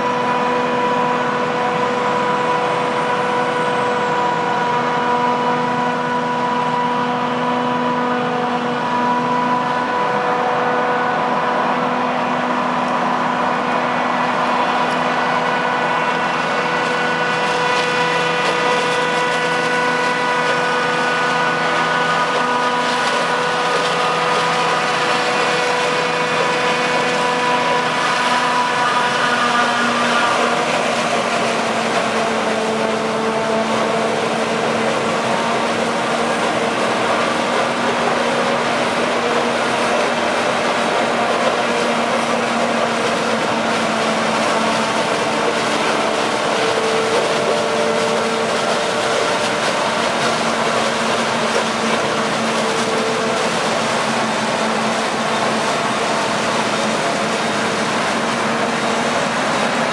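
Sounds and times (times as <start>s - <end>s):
whining machine tones: 0.0s - 59.9s.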